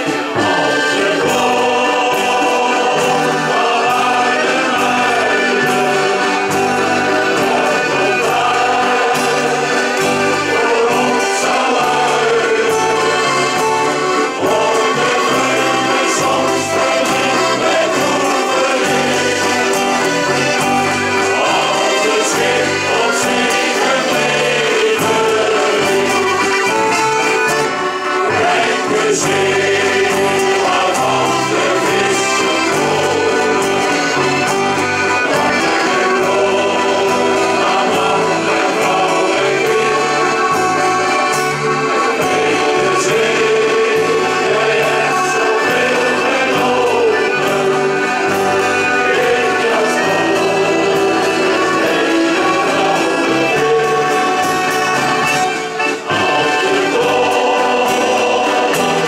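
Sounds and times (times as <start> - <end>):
accordions playing: 0.0 - 59.0
men's choir singing: 0.0 - 59.0.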